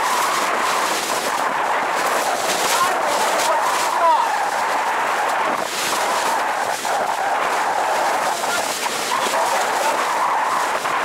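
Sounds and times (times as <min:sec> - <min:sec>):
water rushing: 0:00.0 - 0:11.0
wind rushing: 0:00.0 - 0:11.0.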